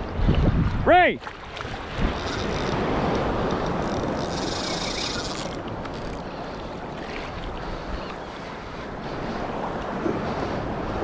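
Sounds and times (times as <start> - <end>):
small waves sloshing: 0.0 - 11.0
wind on microphone: 0.0 - 11.0.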